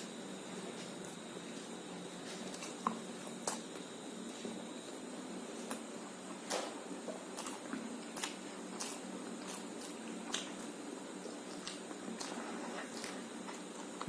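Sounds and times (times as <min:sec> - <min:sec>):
wet chewing and mouth noises: 0:00.7 - 0:04.5, 0:05.5 - 0:14.0.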